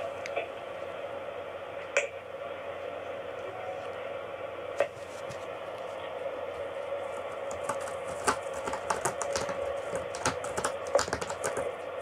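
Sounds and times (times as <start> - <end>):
steady room hum: 0.0 - 12.0.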